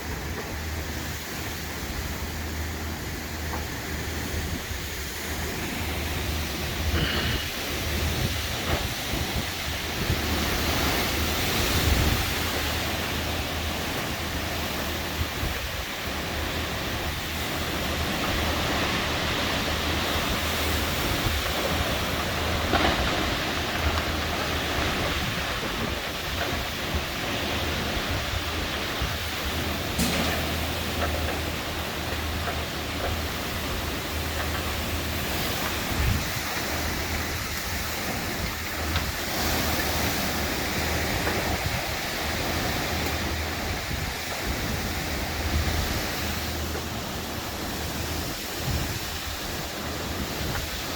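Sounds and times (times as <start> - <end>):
rain: 0.0 - 50.9
strong wind: 0.0 - 50.9.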